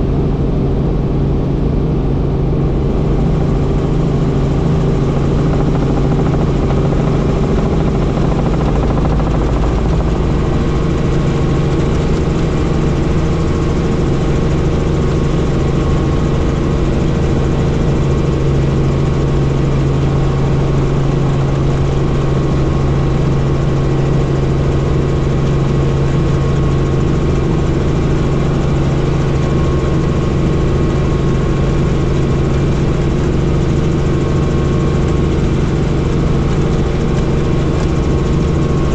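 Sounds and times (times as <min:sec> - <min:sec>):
helicopter in flight: 0:00.0 - 0:38.9.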